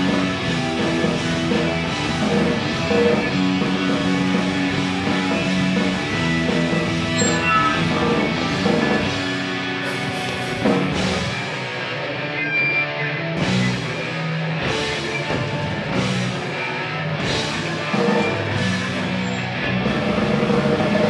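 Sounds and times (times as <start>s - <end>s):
loud electric guitar chords: 0.0s - 21.0s
punk band playing live: 0.0s - 21.0s.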